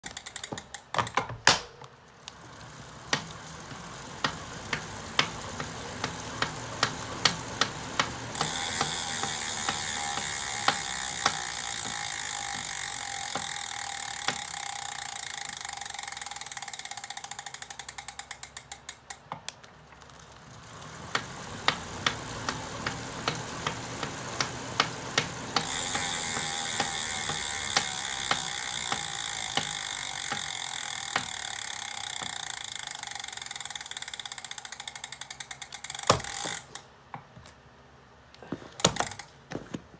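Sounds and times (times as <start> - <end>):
bicycle freehub clicking: 0.0 - 37.6, 38.8 - 39.4
bike trainer whirring: 0.0 - 37.6, 38.3 - 39.9.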